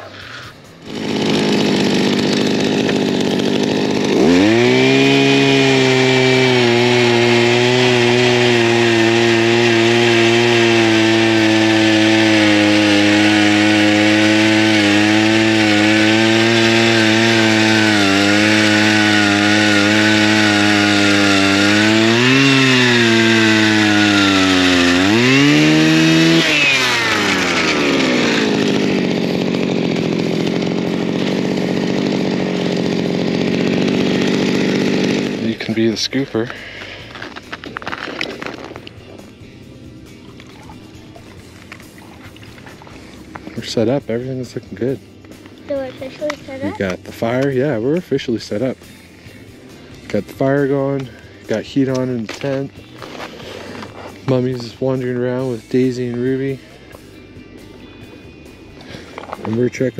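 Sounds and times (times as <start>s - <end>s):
ice auger engine revving: 0.0s - 48.8s, 49.8s - 56.8s.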